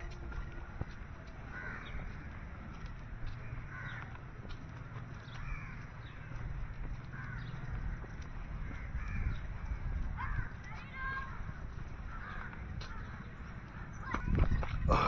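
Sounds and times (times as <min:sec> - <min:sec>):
birds calling harshly: 0:01.4 - 0:15.0.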